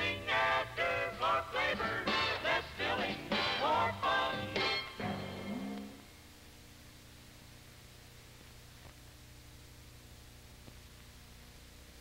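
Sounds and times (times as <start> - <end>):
tape hum and hiss: 0.0 - 12.0.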